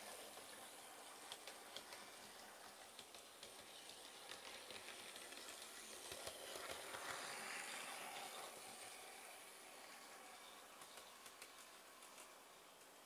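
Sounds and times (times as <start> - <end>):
model train motor whirring: 0.0 - 13.0
small clicks of model train wheels: 0.0 - 13.0.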